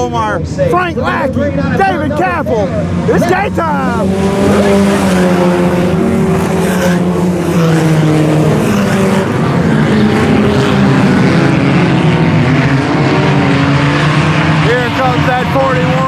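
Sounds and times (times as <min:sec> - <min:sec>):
race car engines racing: 0:00.0 - 0:16.0.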